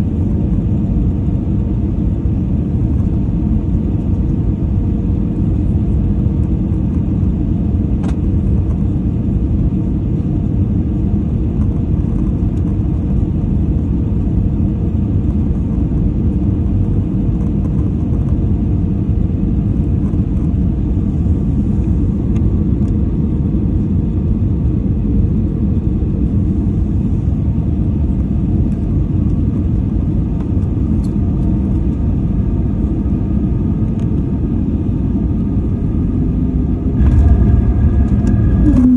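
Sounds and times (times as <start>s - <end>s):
faint steady hum: 0.0s - 38.9s
jet engines and rushing air: 0.0s - 38.9s.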